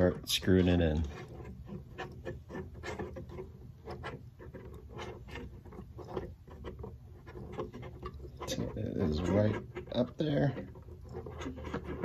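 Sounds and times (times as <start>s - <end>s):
plastic fitting clicking and scraping: 0.0s - 12.0s.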